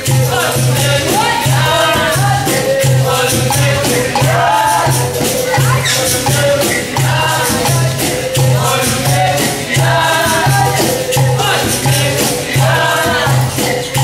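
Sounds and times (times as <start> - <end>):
berimbaus playing: 0.0 - 14.0
pandeiro drum rhythm: 0.0 - 14.0
shakers: 0.0 - 14.0
voices singing: 0.0 - 14.0.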